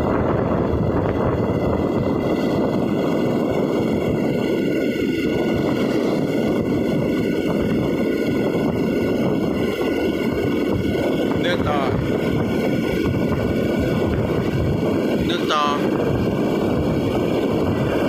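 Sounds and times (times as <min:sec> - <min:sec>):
engine noise: 0:00.0 - 0:18.0
wind on microphone: 0:00.0 - 0:18.0.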